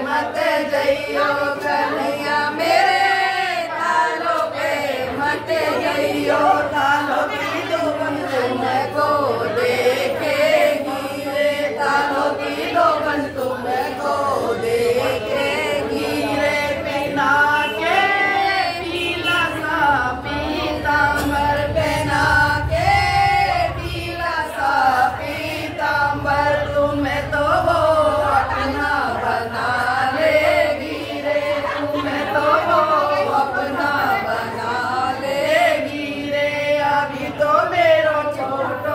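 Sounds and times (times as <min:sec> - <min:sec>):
women singing devotional song: 0:00.0 - 0:38.9.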